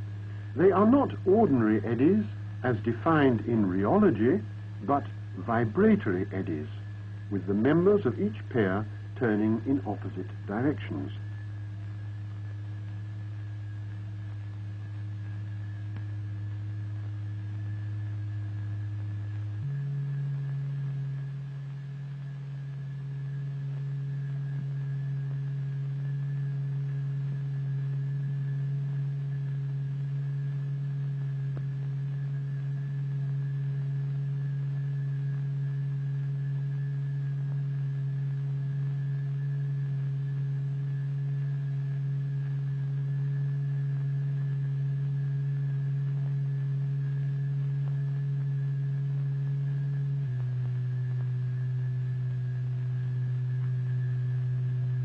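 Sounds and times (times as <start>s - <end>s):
low electronic tone: 0.0s - 55.0s.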